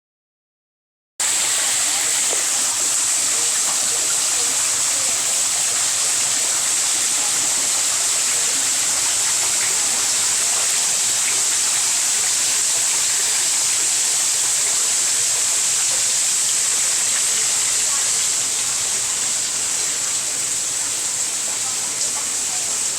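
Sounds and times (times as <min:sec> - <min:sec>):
small waterfall splashing: 0:01.2 - 0:22.9.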